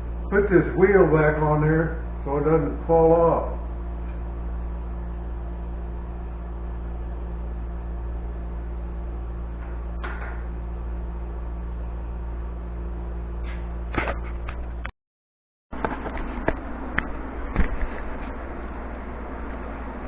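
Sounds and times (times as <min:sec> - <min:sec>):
low electrical hum: 0:00.0 - 0:14.9, 0:15.8 - 0:20.0.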